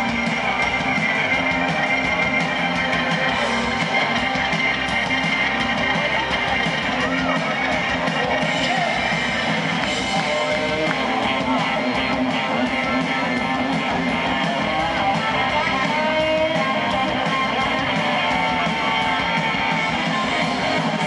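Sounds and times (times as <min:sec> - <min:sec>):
live rock band playing: 0:00.0 - 0:21.0
strummed electric guitar: 0:00.0 - 0:21.0.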